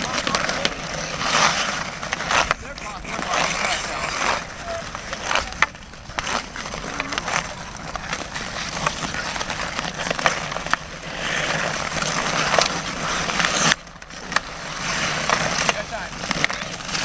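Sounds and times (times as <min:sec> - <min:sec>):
skates scraping on ice: 0:00.0 - 0:17.0
sticks clacking on puck: 0:00.0 - 0:17.0.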